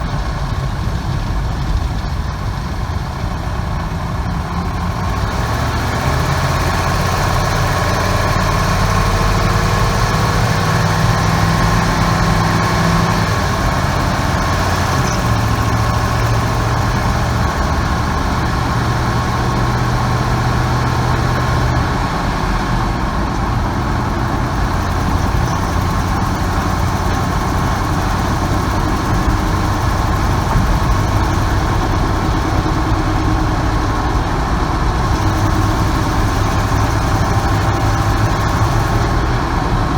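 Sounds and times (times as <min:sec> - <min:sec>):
exhaust noise: 0:00.0 - 0:39.9
van engine idling: 0:00.0 - 0:39.9.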